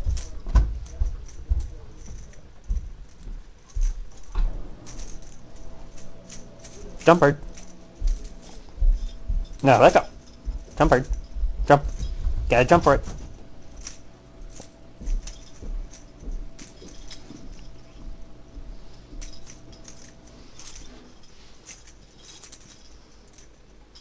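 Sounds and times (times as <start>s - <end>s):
light metallic jingling: 0.0s - 24.0s.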